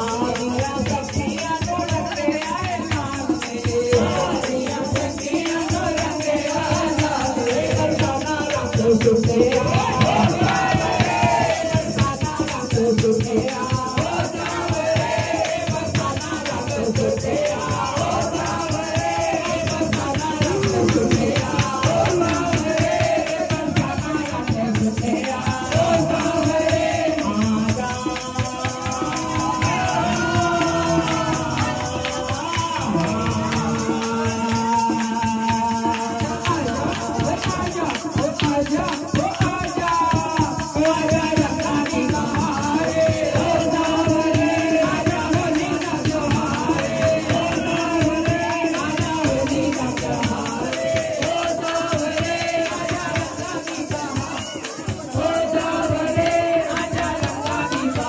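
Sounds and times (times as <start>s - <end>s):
jingling hand percussion: 0.0s - 58.0s
women singing into a microphone: 0.0s - 58.0s.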